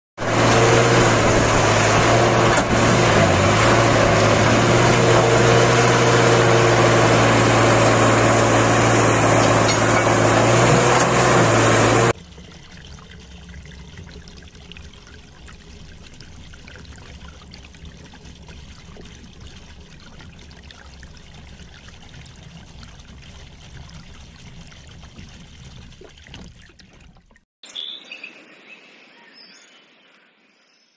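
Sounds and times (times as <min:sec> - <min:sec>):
water splashing and trickling: 0:00.2 - 0:27.5.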